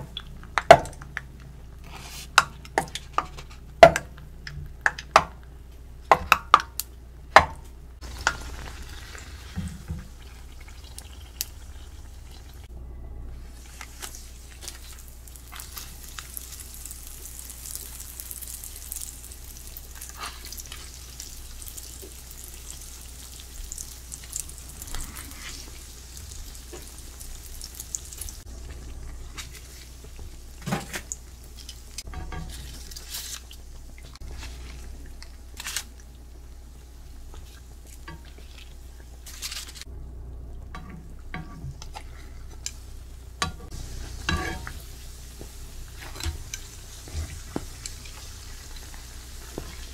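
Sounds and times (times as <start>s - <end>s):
dough sizzling in hot oil: 8.0s - 12.7s, 13.4s - 39.9s, 40.7s - 49.9s.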